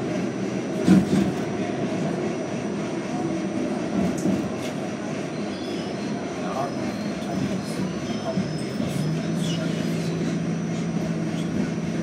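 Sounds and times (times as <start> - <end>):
subway car wheels rumbling: 0.0 - 12.0.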